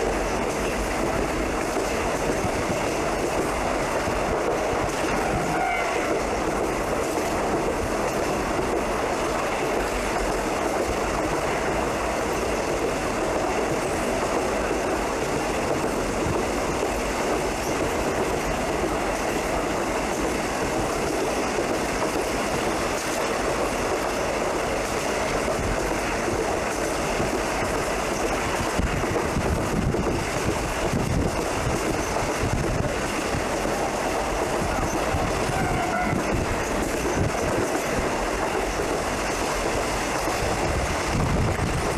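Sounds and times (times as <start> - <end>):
train wheels on rail: 0.0 - 41.9.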